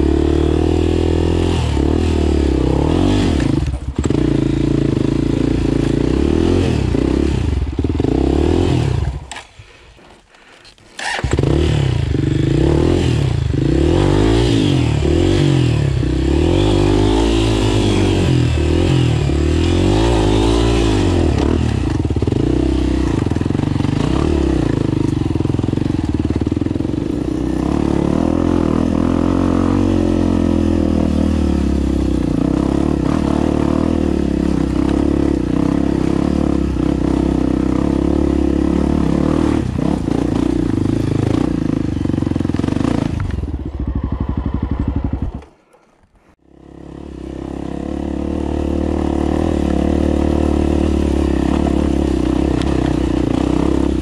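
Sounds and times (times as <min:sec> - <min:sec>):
dirt bike engine running: 0:00.0 - 0:09.7, 0:10.4 - 0:45.6, 0:46.4 - 0:54.0.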